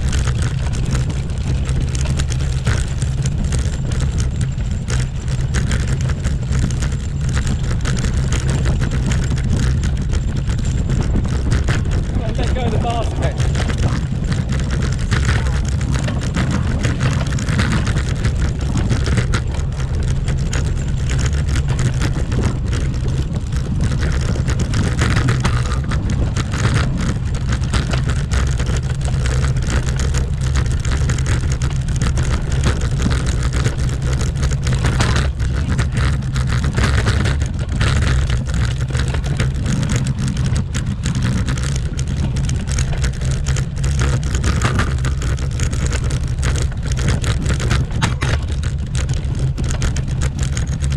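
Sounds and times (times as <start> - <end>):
bicycle rattling over cobblestones: 0.0 - 50.9.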